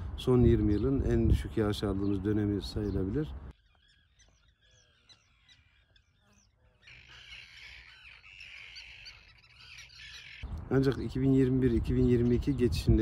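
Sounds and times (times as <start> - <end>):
bird chorus chirping: 0.0 - 13.0.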